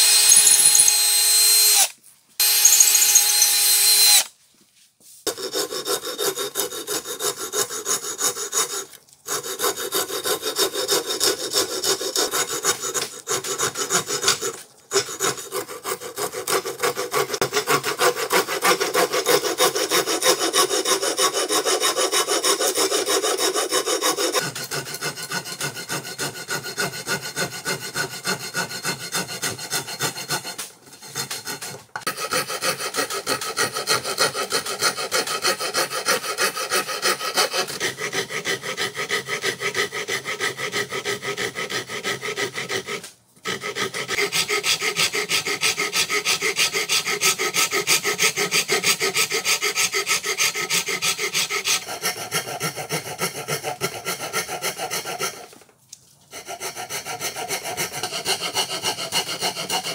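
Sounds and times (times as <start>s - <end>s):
rasp strokes on wood: 0.0s - 4.3s, 5.3s - 55.7s, 56.3s - 59.9s.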